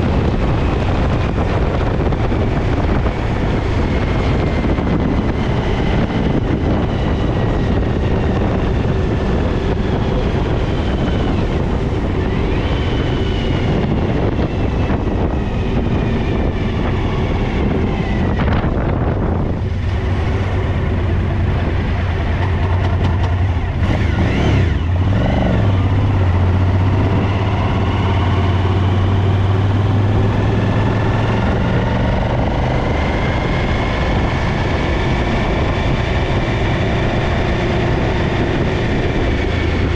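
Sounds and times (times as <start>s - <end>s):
vehicle running steadily: 0.0s - 39.9s.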